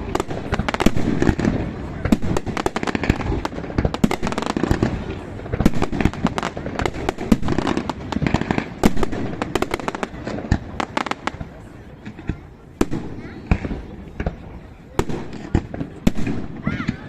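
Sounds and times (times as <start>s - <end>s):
firecrackers popping and banging: 0.0s - 17.0s.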